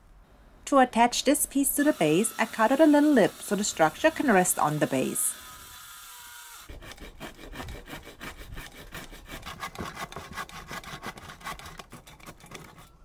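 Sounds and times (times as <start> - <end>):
handsaw cutting wood: 1.6 - 12.9.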